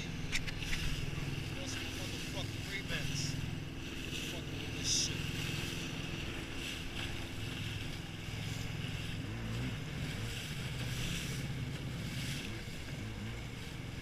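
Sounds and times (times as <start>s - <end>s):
jet ski engine running: 0.0s - 14.0s
water rushing: 0.0s - 14.0s.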